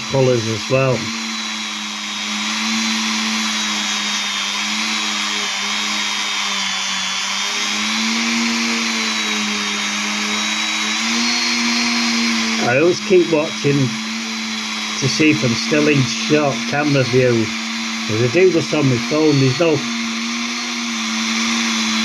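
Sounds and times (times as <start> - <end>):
small electric motor humming: 0.0 - 22.0.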